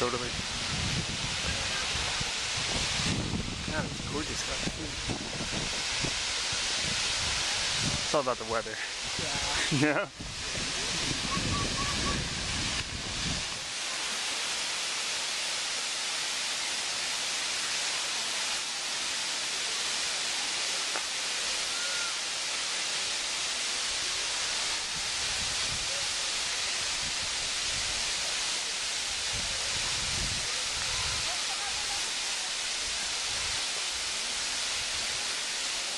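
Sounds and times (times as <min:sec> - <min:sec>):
waterfall rushing hiss: 0:00.0 - 0:35.9.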